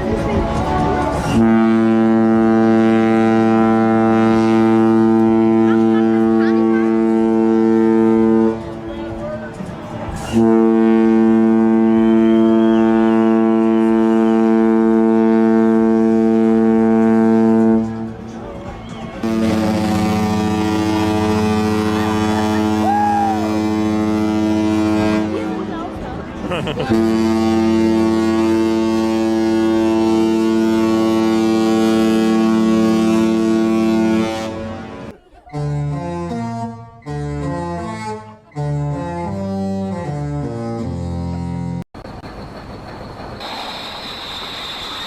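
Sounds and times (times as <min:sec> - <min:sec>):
ship's horn blast: 0:01.1 - 0:09.2, 0:10.2 - 0:18.3, 0:19.2 - 0:41.8.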